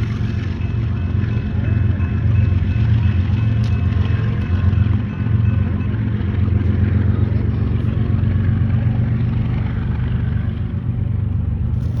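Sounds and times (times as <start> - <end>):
diesel locomotive drone: 0.0 - 12.0
train wheels rumbling on rails: 0.0 - 12.0.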